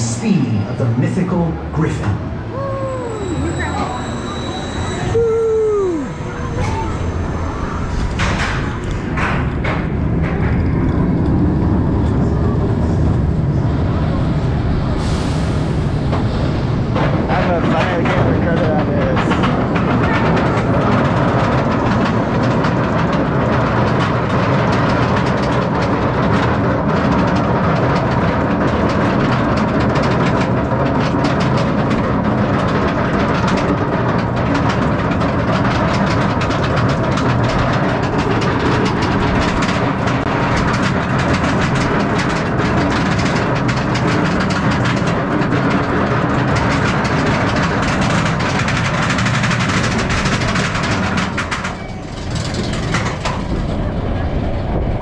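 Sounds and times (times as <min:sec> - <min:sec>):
roller coaster chain lift rattling: 0:00.0 - 0:14.8, 0:15.4 - 0:55.0.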